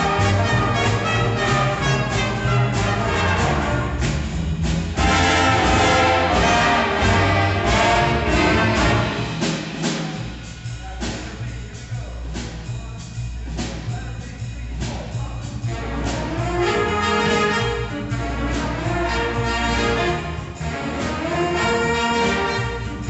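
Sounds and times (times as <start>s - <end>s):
jazz big band playing: 0.0s - 23.0s
upright bass line: 0.0s - 23.0s.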